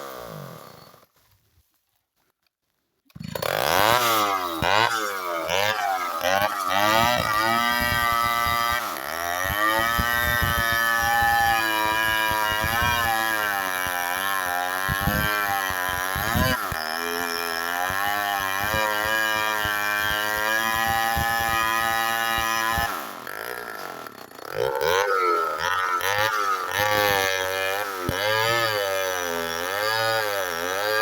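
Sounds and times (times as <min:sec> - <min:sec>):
chainsaw cutting wood: 0:00.0 - 0:01.3, 0:03.1 - 0:31.0.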